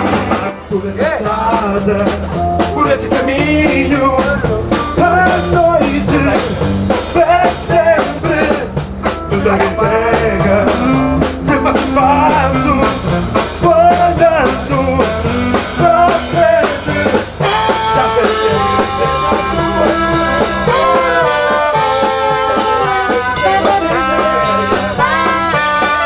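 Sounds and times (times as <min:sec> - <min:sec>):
live band playing upbeat song: 0:00.0 - 0:26.0.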